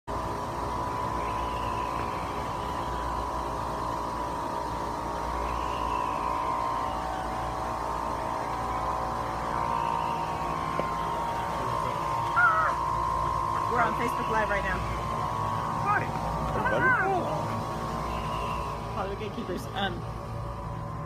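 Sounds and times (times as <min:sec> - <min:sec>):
electronic drone: 0:00.1 - 0:21.0.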